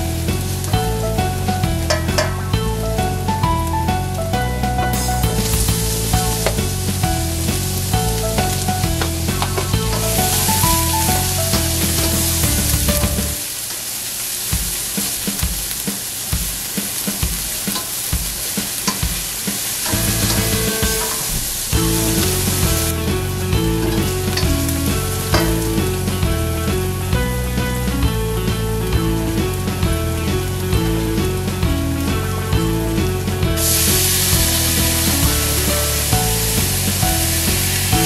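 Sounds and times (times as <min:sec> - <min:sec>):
background music: 0:00.0 - 0:13.4, 0:19.8 - 0:38.0
onion and garlic sizzling in oil: 0:00.0 - 0:38.0.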